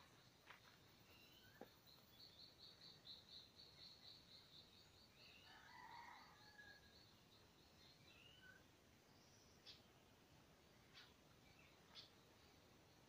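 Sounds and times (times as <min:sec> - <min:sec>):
birds chirping: 0:00.0 - 0:06.2, 0:07.0 - 0:13.0.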